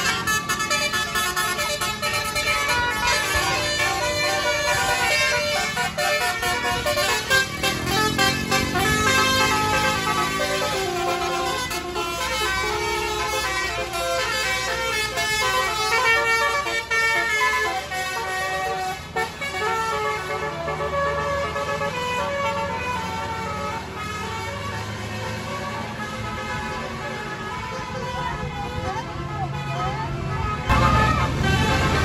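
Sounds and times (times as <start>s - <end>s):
bus engine rumble: 0.0s - 32.0s
musical bus horn tune: 0.0s - 32.0s.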